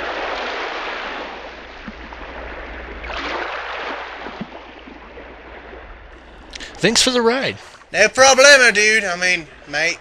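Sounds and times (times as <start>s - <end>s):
sea waves washing: 0.0s - 10.0s.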